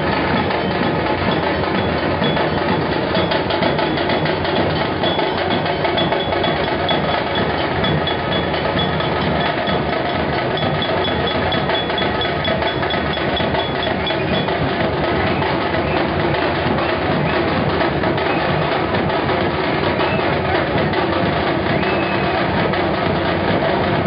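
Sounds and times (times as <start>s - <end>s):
drum band drumming: 0.0s - 24.0s.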